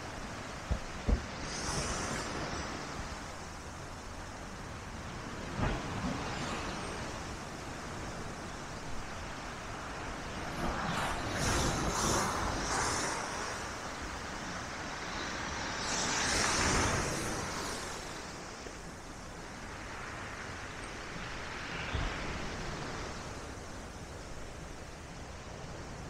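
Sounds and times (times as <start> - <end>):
waves breaking on beach: 0.0 - 26.0
wind: 0.0 - 26.0.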